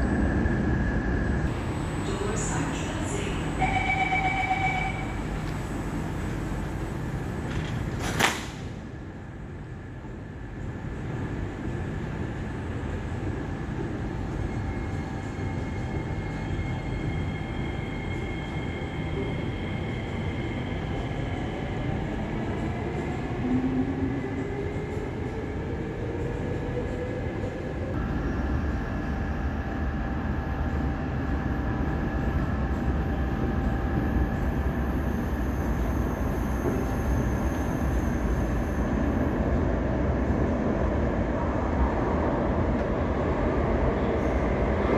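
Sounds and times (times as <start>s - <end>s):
train rumbling in tunnel: 0.0s - 44.9s.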